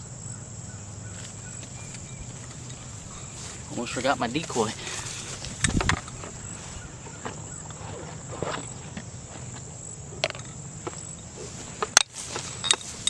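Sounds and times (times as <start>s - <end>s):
footsteps in dry grass: 1.0s - 9.8s, 10.8s - 13.0s.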